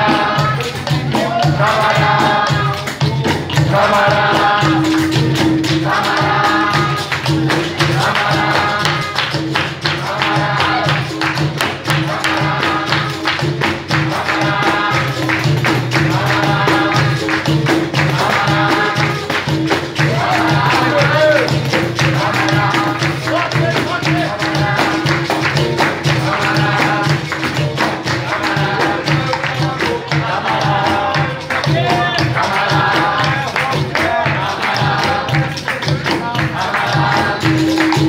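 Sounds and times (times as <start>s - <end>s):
group singing short phrases: 0.0s - 38.0s
jingling tambourine: 0.0s - 38.0s
hand-clapping: 0.1s - 38.0s.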